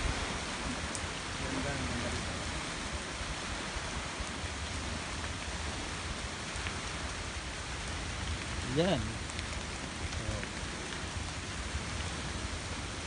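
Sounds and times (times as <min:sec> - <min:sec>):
heavy rain on trees: 0:00.0 - 0:13.0.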